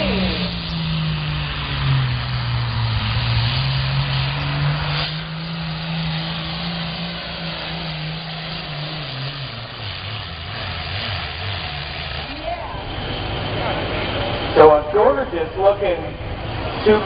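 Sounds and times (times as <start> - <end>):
tractor engine running hard: 0.0 - 17.0.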